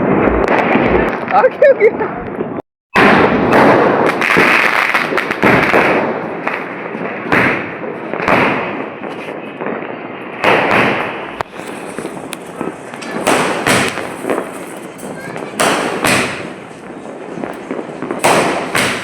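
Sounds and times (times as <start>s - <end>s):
fireworks bangs and pops: 0.0s - 19.0s
fireworks crackling: 0.0s - 19.0s.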